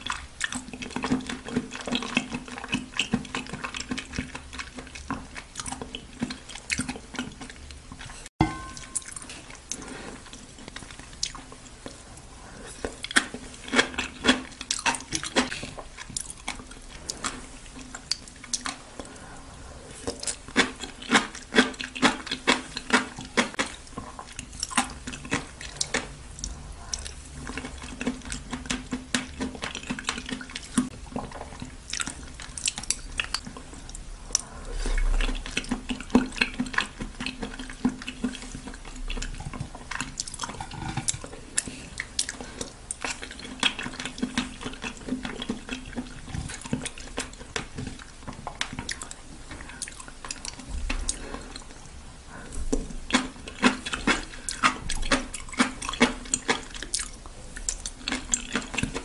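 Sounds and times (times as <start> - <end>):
wet chewing and slurping: 0.0 - 59.0.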